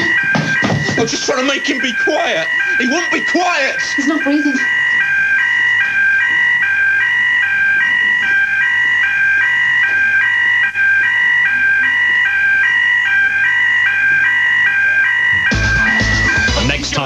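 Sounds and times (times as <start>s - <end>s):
electronic two-tone alarm: 0.0s - 17.0s.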